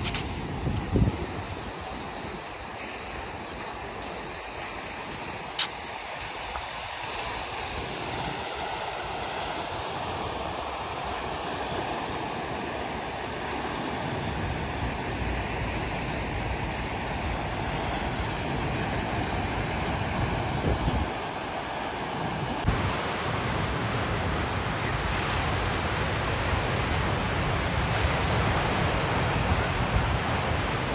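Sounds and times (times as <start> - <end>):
waves breaking on a beach: 0.0 - 30.9
wind rumbling on microphone: 0.0 - 30.9.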